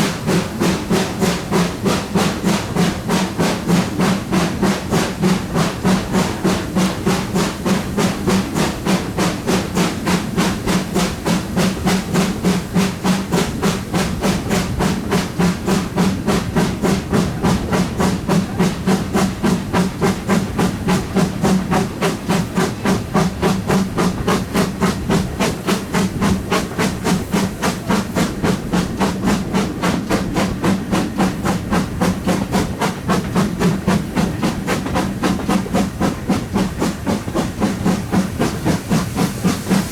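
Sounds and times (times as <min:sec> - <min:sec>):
steam hissing: 0:00.0 - 0:39.9
steam locomotive exhaust beats: 0:00.0 - 0:39.9.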